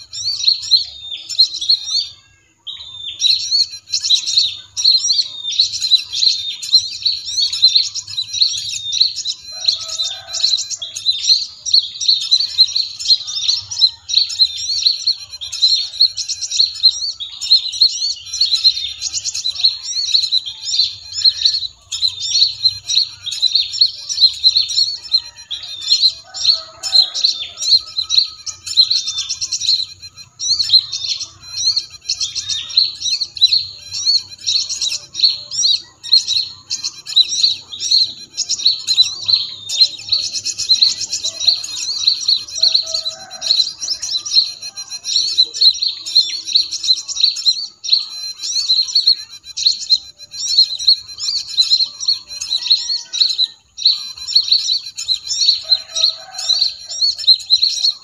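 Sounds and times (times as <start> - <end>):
many small birds chirping: 0.0 - 58.0.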